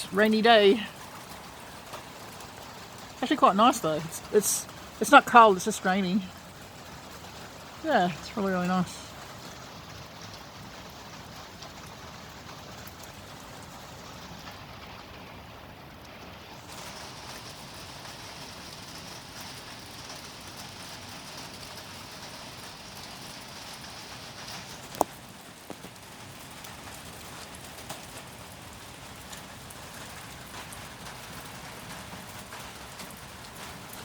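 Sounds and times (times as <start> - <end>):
steady rain falling: 0.0 - 34.0
water drips: 0.0 - 34.0.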